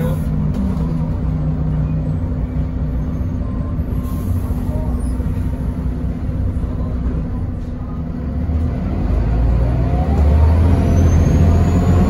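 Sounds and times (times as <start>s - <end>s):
bus diesel engine revving: 0.0s - 12.0s.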